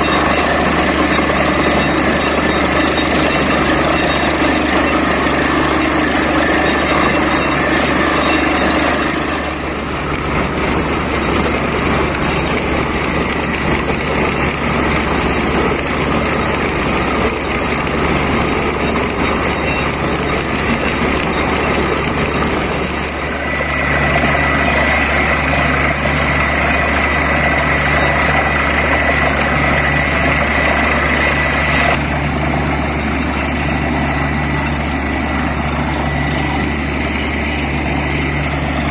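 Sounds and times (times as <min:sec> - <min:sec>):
drilling rig engine and compressor: 0:00.0 - 0:38.9
high whine with slow throb: 0:00.0 - 0:38.9.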